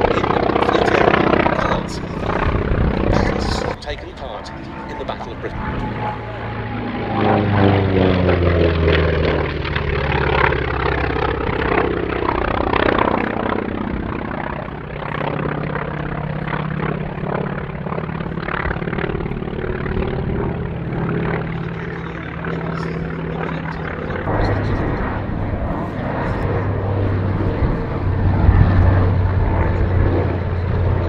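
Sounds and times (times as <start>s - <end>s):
propeller aircraft engine drone: 0.0s - 31.0s.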